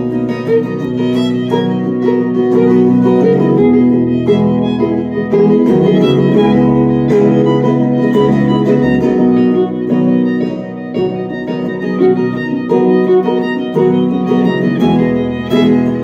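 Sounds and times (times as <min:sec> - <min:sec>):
fiddle melody: 0:00.0 - 0:16.0
plucked strings: 0:00.0 - 0:16.0.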